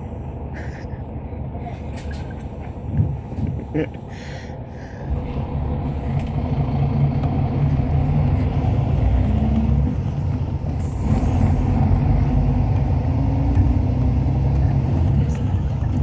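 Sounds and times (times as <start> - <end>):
bus engine: 0.0 - 16.0
road rumble: 0.0 - 16.0.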